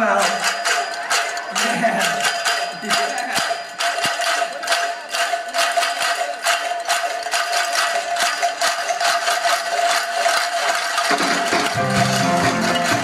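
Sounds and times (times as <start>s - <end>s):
steady ringing tone: 0.0s - 11.0s
cowbells clattering: 0.0s - 13.0s.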